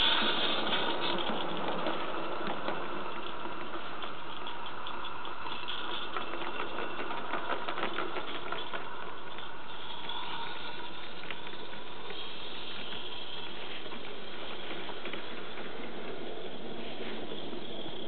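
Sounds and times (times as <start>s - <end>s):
model train wheels rattling: 0.0s - 18.0s.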